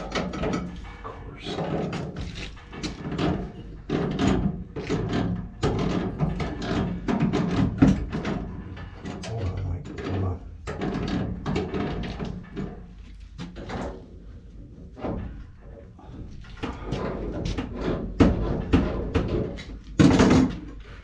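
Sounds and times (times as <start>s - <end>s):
tools knocking and clunking: 0.0s - 20.9s.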